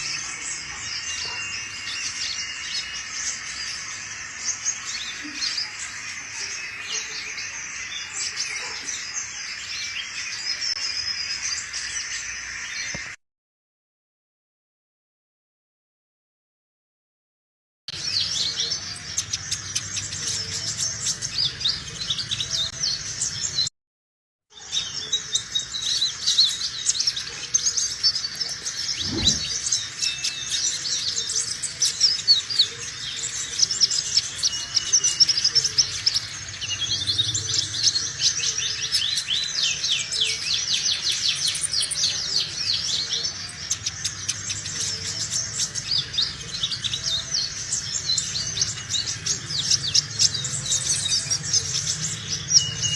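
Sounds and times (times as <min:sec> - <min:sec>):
bird twittering song: 0:00.0 - 0:13.2, 0:17.9 - 0:23.7, 0:24.5 - 0:52.9.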